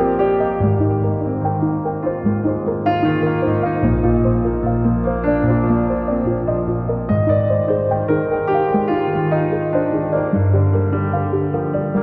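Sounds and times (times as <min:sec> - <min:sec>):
slow gentle instrumental music: 0:00.0 - 0:12.0.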